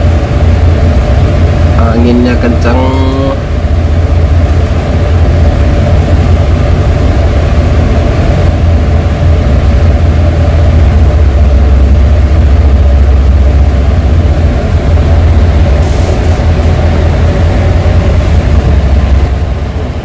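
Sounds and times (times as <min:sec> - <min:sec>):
ship rumbling through rough sea: 0:00.0 - 0:20.0.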